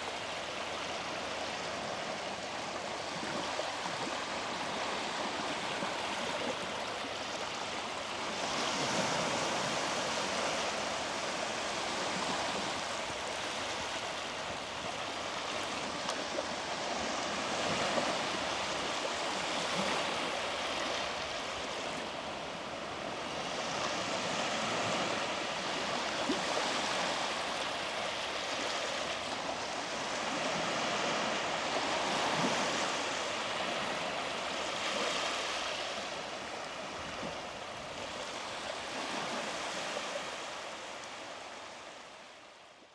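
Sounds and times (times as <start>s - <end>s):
small waves washing onto beach: 0.0s - 42.7s.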